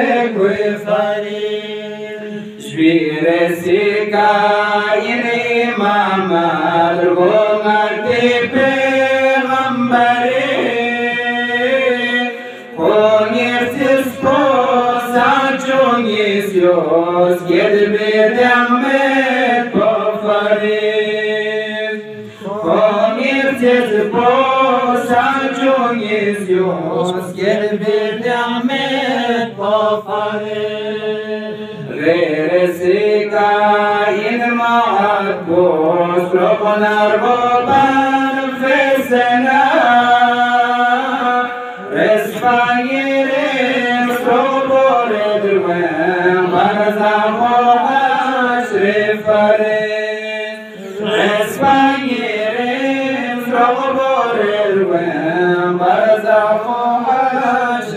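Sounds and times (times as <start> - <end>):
man chanting: 0.0 - 57.9.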